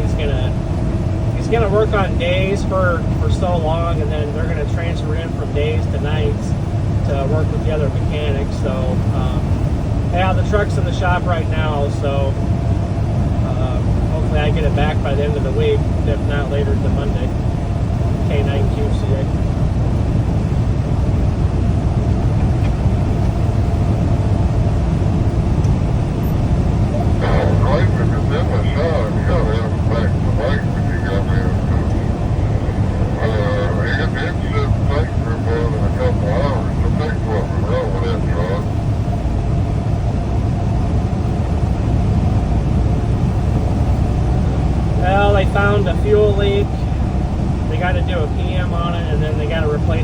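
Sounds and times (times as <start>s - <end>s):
road noise: 0.0s - 50.0s
truck engine drone: 0.0s - 50.0s.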